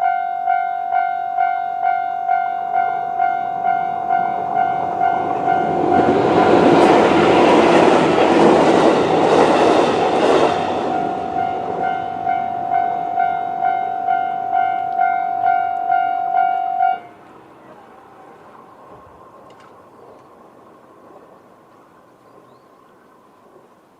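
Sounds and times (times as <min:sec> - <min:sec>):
electric train rushing past: 0:00.5 - 0:23.9.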